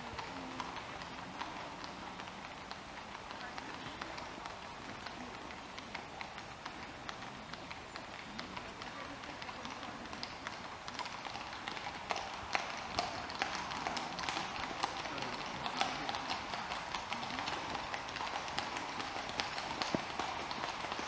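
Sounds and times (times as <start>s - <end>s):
horse hooves on asphalt: 0.0s - 21.0s.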